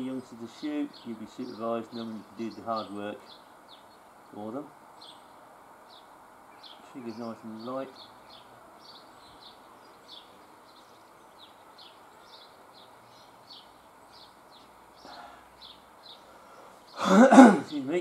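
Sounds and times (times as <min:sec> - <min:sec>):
bird chirping: 0:00.0 - 0:18.0
outdoor background hiss: 0:00.0 - 0:18.0.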